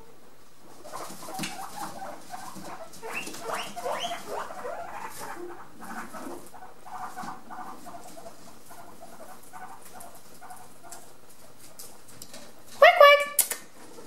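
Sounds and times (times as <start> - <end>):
guinea pigs squeaking: 0.6 - 14.0.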